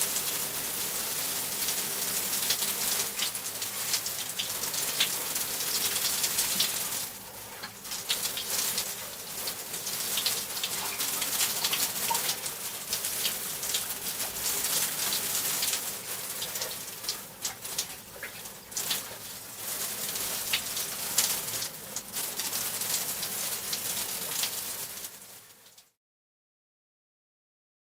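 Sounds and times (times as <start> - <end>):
shower water spraying: 0.0 - 25.8.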